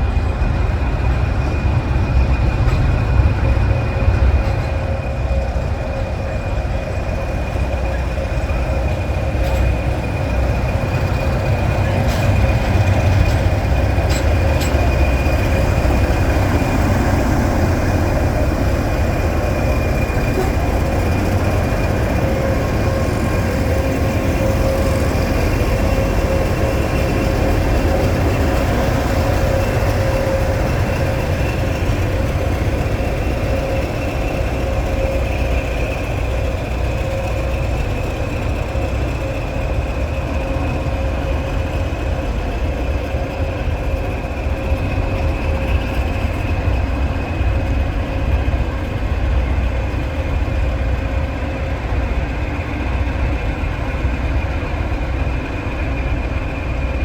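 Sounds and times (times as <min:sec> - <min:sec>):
constant whine: 0:00.0 - 0:57.0
diesel train rumbling: 0:00.0 - 0:57.0.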